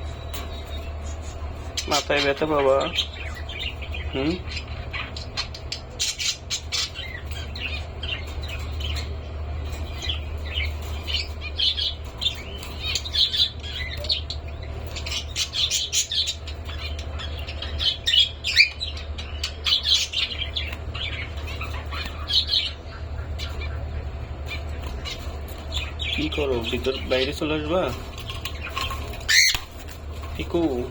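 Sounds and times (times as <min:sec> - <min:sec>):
cockatiels chirping: 0:00.1 - 0:30.9.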